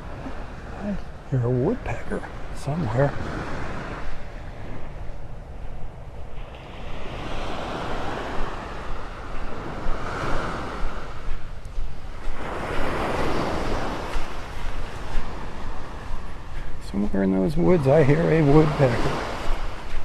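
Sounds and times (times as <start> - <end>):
small waves washing on beach: 0.0 - 20.0
wind rumble on microphone: 0.0 - 20.0.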